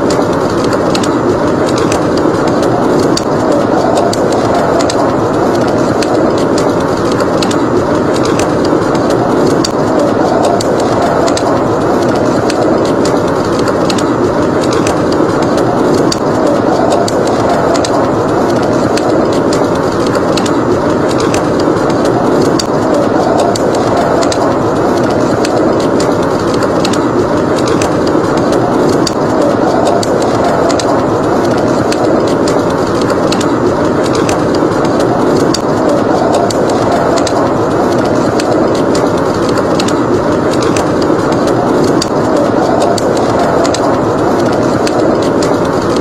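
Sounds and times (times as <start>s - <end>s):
rushing blizzard wind: 0.0s - 46.0s
wood fire crackling and popping: 0.0s - 46.0s.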